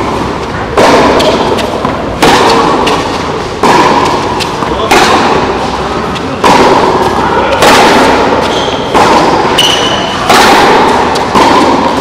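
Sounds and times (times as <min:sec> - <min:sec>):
tennis balls struck by rackets: 0:00.0 - 0:12.0.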